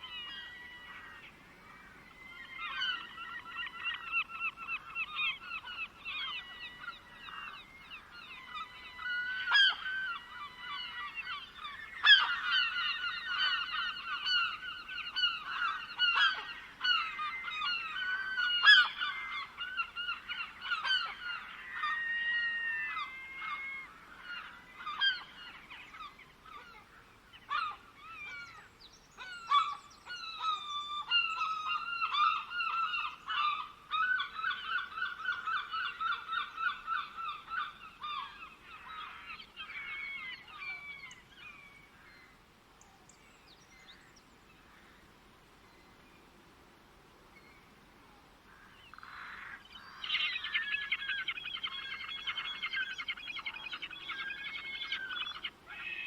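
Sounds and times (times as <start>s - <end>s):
chorus of birds calling: 0.0s - 45.1s, 48.5s - 56.0s.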